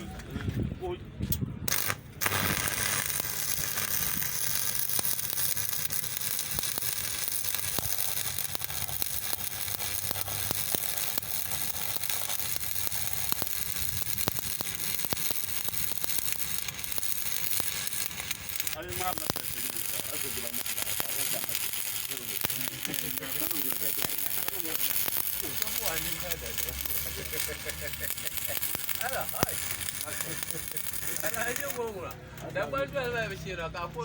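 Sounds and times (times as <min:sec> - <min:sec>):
welding arc crackling: 0:01.7 - 0:33.6.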